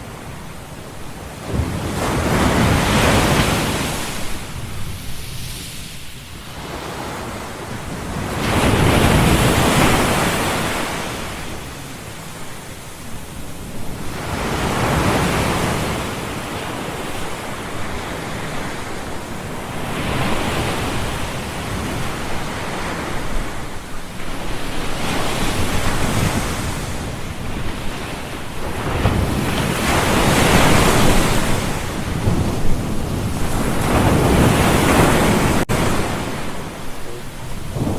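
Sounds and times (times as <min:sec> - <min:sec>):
ocean waves breaking: 0:00.0 - 0:37.9.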